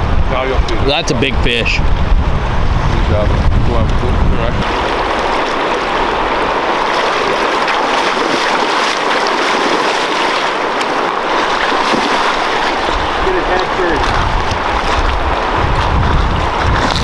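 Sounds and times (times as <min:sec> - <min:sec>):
fast-flowing river water rushing: 0:03.1 - 0:17.0.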